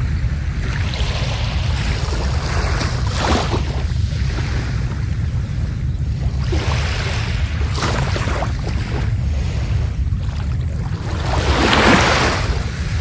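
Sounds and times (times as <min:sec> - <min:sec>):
steady low rumble: 0:00.0 - 0:13.0
waves washing onto beach: 0:00.0 - 0:13.0.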